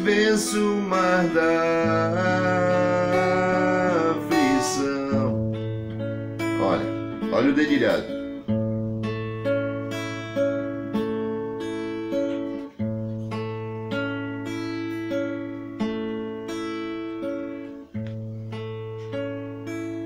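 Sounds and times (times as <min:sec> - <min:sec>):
fingerpicked classical guitar: 0:00.0 - 0:20.0.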